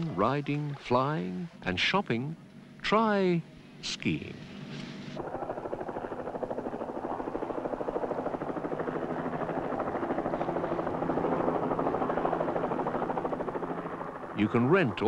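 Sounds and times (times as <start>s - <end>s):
helicopter rotor chop: 0.0s - 2.0s, 4.1s - 15.0s.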